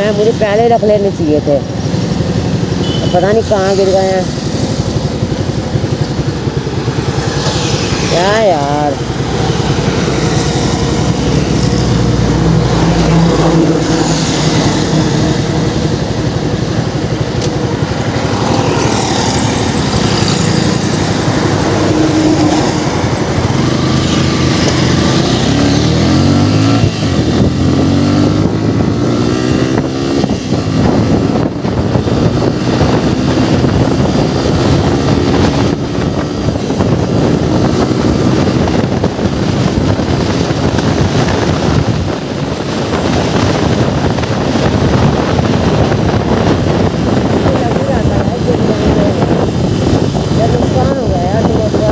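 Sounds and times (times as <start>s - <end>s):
motorcycle engine accelerating: 0.0s - 51.9s
wind on microphone: 0.0s - 51.9s.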